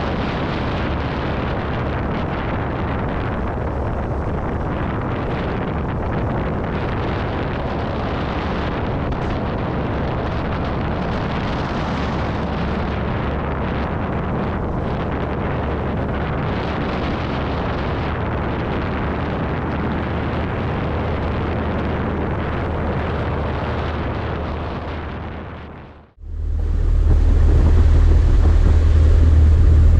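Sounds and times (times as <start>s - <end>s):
airplane engine drone: 0.0s - 29.9s.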